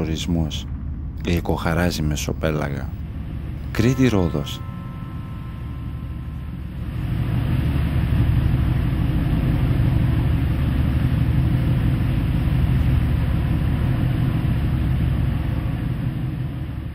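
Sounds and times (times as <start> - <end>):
ship engine rumbling: 0.0 - 16.9.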